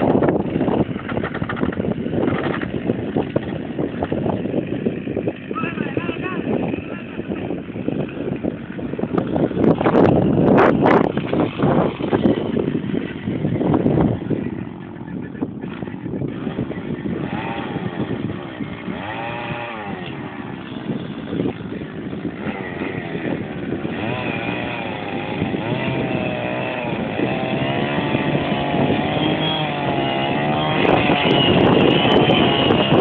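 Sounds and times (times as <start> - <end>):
engine running with swinging pitch: 0.0 - 33.0.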